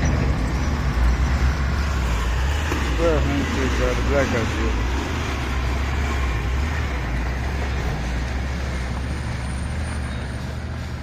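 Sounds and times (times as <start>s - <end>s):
road and tyre noise: 0.0s - 11.0s
truck diesel engine running: 0.0s - 11.0s.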